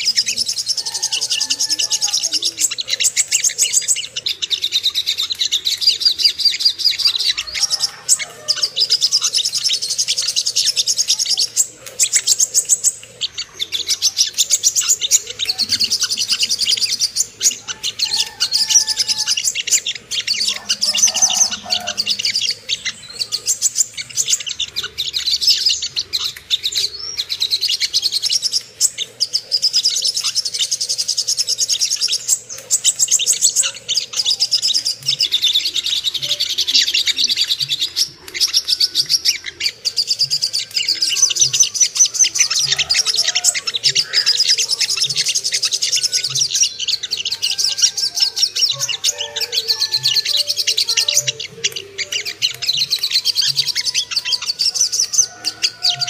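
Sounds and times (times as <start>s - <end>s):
bird twittering trills: 0.0s - 56.0s.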